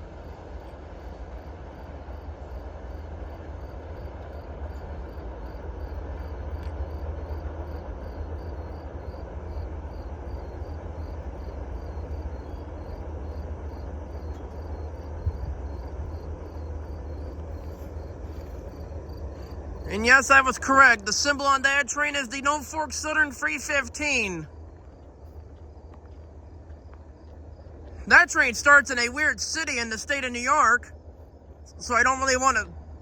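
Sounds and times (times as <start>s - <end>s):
continuous low rumble: 0.0s - 33.0s
crickets chirping: 0.0s - 33.0s.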